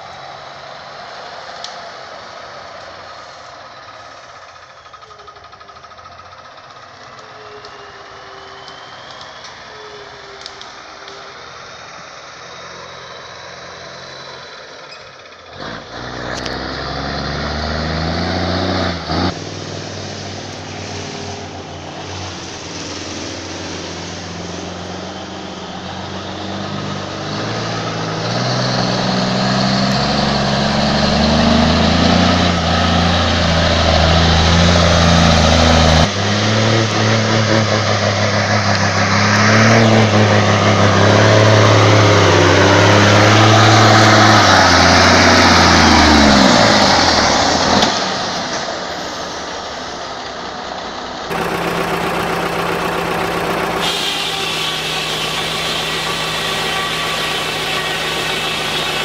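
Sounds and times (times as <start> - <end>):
steady engine hum: 0.0 - 59.0
truck diesel engine pulling hard: 0.0 - 59.0.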